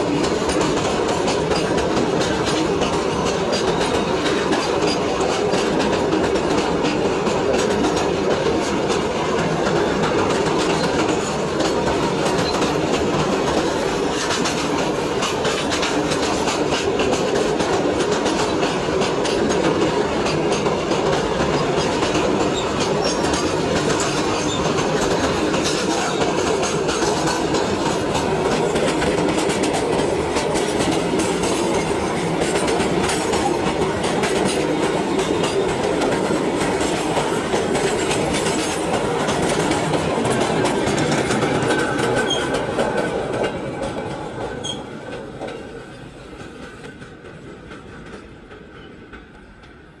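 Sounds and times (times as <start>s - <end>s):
steel wheels clattering over rail joints: 0.0s - 49.9s
freight train rumble: 0.0s - 50.0s.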